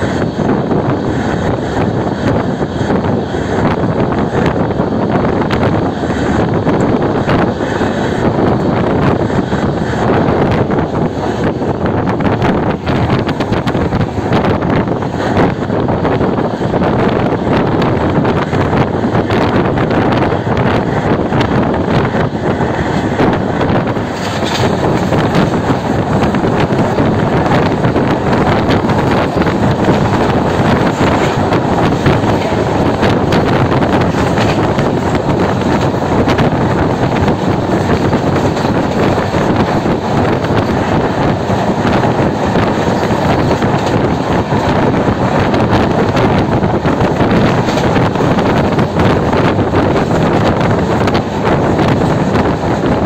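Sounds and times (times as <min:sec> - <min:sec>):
train running at speed: 0:00.0 - 0:53.0
wind buffeting microphone: 0:00.0 - 0:53.0.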